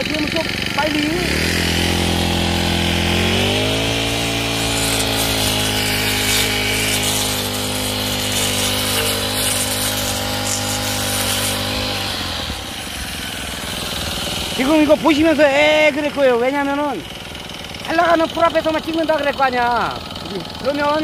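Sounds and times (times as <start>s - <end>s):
blade cutting weeds: 0.0s - 21.0s
brush cutter engine running: 0.0s - 21.0s.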